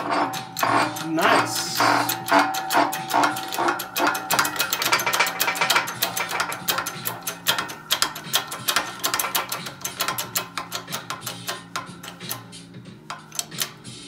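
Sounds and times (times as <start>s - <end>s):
metallic clicking of engine parts: 0.0s - 14.0s.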